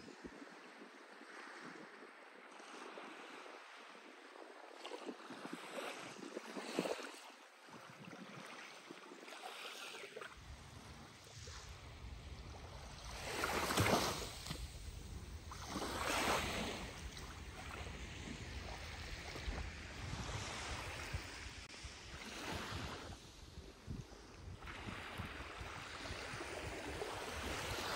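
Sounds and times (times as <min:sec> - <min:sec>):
wind rumble on microphone: 0:00.0 - 0:08.5, 0:10.3 - 0:27.9
waves lapping on sandy shore: 0:00.0 - 0:27.9.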